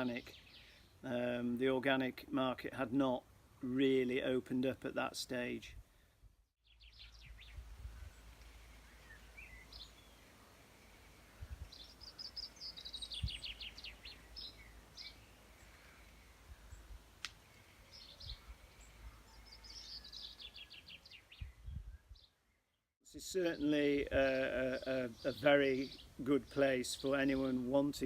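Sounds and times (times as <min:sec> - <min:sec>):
songbirds singing: 0:00.0 - 0:02.2, 0:06.6 - 0:28.0.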